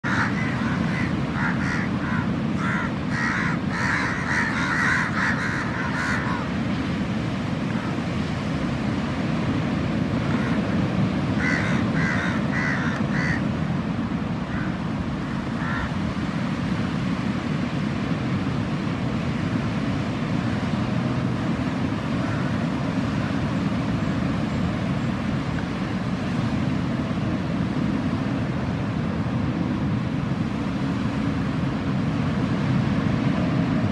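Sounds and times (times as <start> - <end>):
sea surf: 0.0 - 33.9
wind: 0.0 - 33.9.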